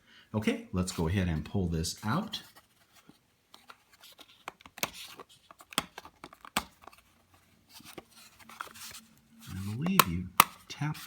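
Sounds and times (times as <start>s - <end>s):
card and plastic rustling: 0.9s - 11.0s.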